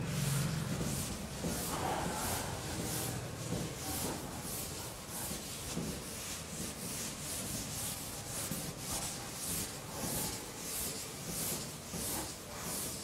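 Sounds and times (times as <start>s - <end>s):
cloth wiping a chalkboard: 0.0s - 13.0s.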